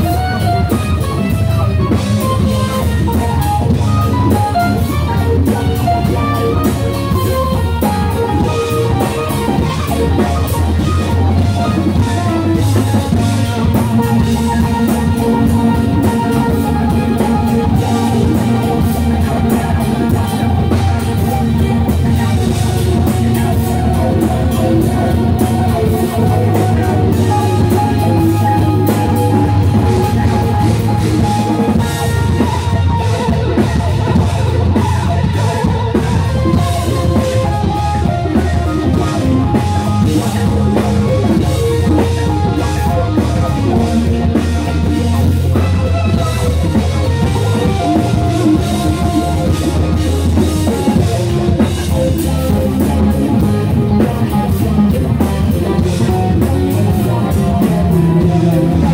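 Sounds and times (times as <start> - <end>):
heavy bass line: 0.0 - 58.9
rock band playing live: 0.0 - 58.9
steady drumbeat: 0.0 - 58.9.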